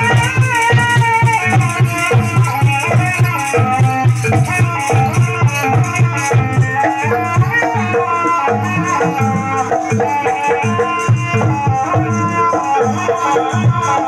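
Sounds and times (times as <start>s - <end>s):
hand drums beating: 0.0s - 14.0s
rattling jingle: 0.0s - 14.0s.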